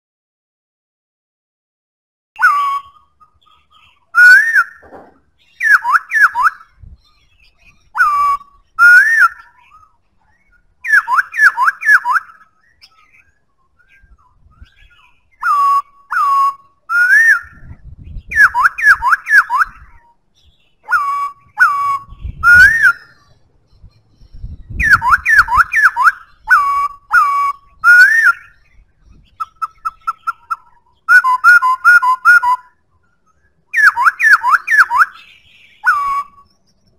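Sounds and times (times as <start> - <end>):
bird singing whistled phrases: 2.4 - 4.8, 5.4 - 36.9.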